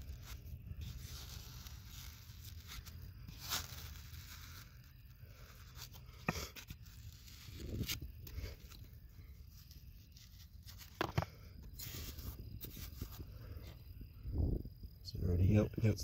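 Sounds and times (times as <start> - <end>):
scraping and crunching of sediment: 0.0 - 13.8.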